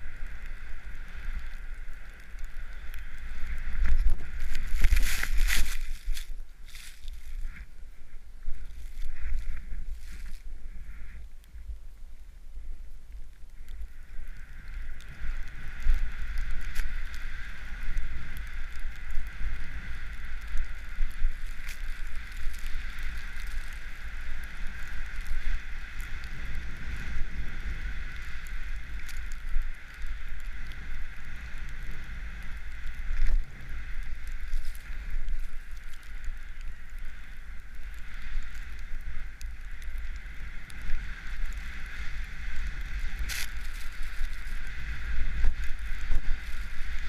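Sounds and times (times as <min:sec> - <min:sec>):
snowboard hiss through snow: 0:00.0 - 0:12.9, 0:13.6 - 0:47.0
wind rumbling on camera: 0:00.0 - 0:47.0.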